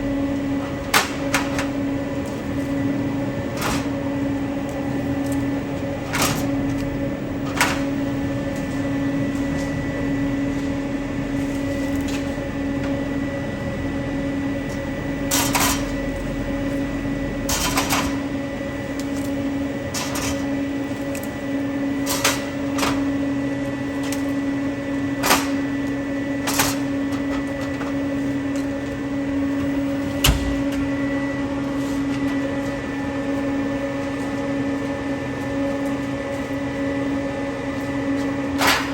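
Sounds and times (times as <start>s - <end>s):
vending machine electrical hum: 0.0s - 38.9s.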